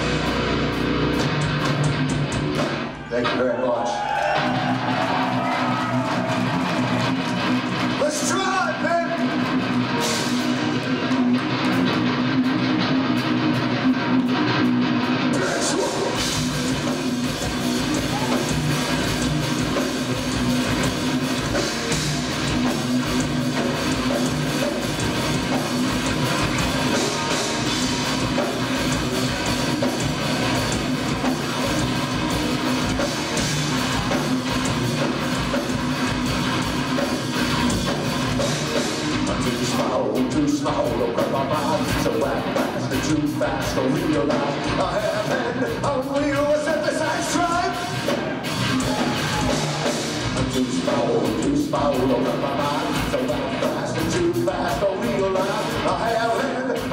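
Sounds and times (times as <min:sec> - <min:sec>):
drum kit: 0:00.0 - 0:03.4, 0:04.0 - 0:56.9
bass guitar: 0:00.0 - 0:56.9
electric guitars: 0:00.0 - 0:56.9.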